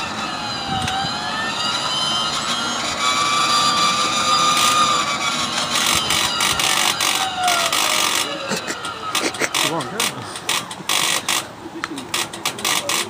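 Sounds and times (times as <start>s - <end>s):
starter whine climbing in pitch: 0.0s - 13.0s.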